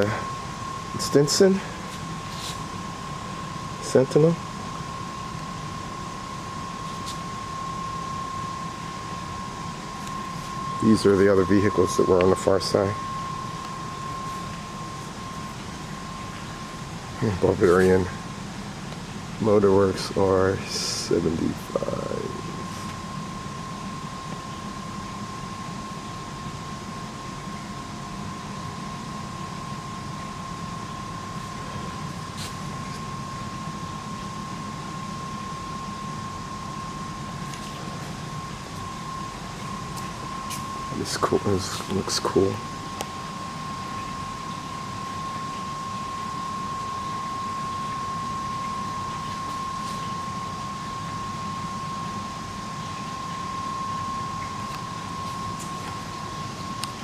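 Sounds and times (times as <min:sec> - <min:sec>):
building background hum and hiss: 0:00.0 - 0:57.0
thin high whine: 0:00.0 - 0:57.0.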